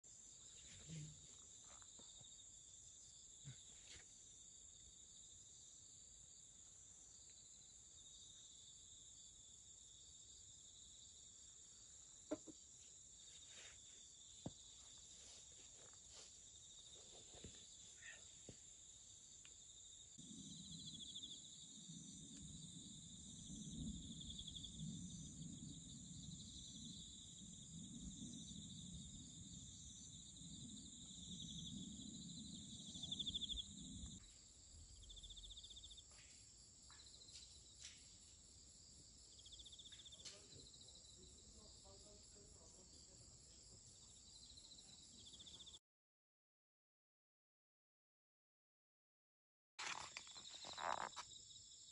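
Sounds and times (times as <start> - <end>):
insect chorus trilling: 0.2 - 38.0, 39.2 - 45.8, 49.8 - 51.9.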